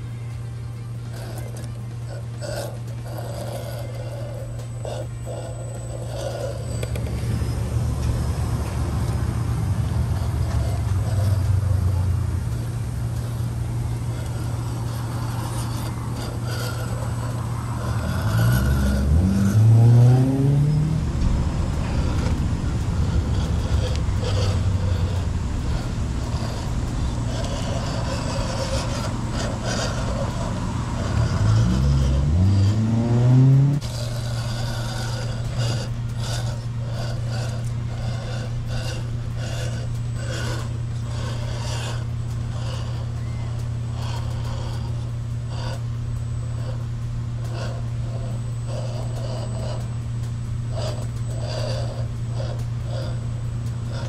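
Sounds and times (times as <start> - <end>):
electric motor and gears whirring: 0.0 - 54.0
steady low hum: 0.0 - 54.0
tires scraping on rock: 0.0 - 54.0.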